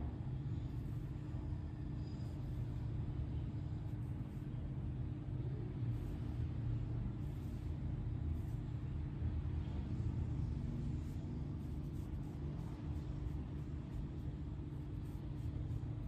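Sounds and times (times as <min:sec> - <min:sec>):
faint constant hum: 0:00.0 - 0:16.0
low background rumble: 0:00.0 - 0:16.0.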